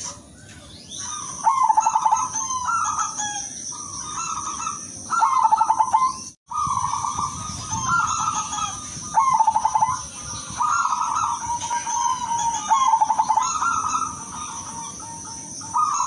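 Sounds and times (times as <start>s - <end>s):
dove cooing: 1.0s - 16.0s.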